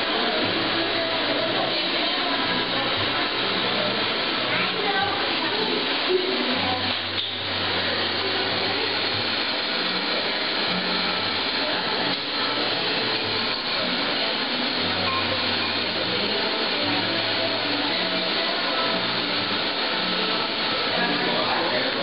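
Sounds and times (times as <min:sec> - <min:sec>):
torch flame hissing: 0:00.0 - 0:22.0.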